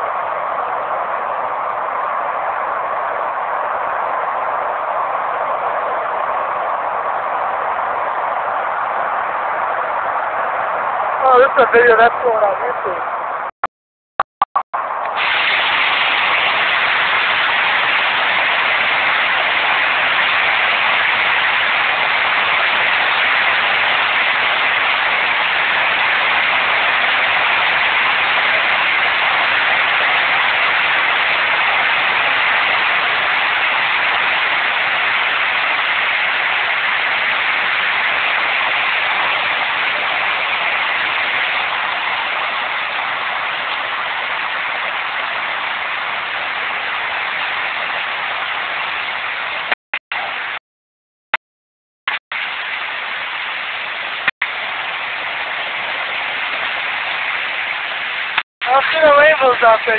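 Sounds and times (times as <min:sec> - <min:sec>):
heavy rain pouring: 0:00.0 - 0:13.4, 0:14.8 - 0:50.6, 0:52.1 - 0:59.9.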